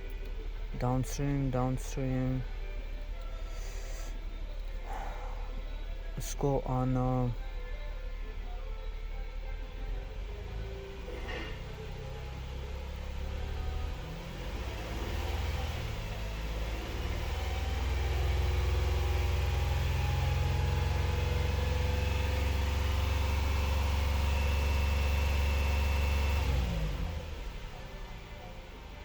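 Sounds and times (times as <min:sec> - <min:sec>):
car engine idling and shutting off: 0:00.0 - 0:29.0.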